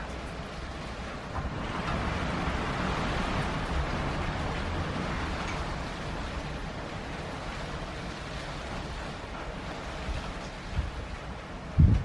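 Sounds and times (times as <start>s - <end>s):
rain falling with wind: 0.0s - 12.0s.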